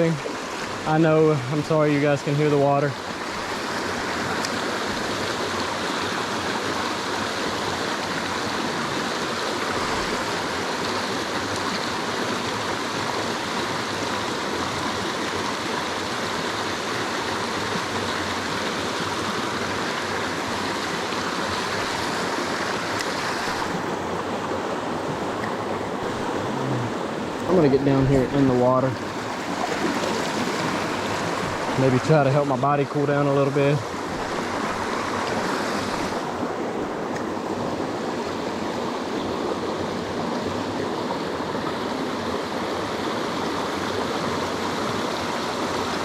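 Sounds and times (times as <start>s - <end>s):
river rapids rushing over rocks: 0.0s - 46.0s.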